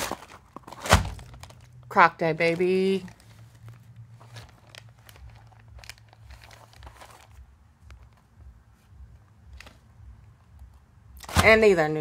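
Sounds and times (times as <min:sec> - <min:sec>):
light crinkling: 0:00.0 - 0:09.8.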